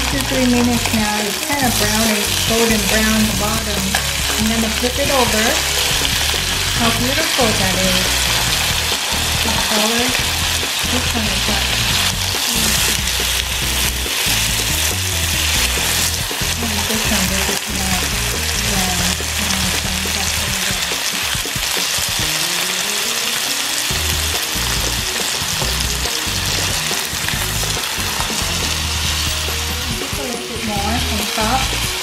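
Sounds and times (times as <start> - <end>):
background music with bass line: 0.0 - 22.5, 23.9 - 32.0
chicken sizzling in a frying pan: 0.0 - 32.0.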